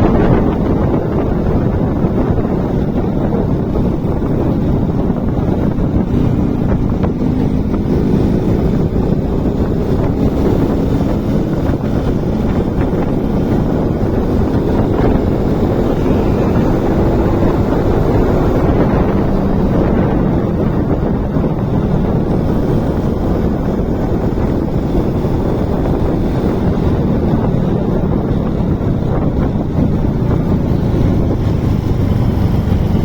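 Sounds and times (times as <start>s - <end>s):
motorcycle engine drone: 0.0s - 33.0s
wind buffeting microphone: 0.0s - 33.0s.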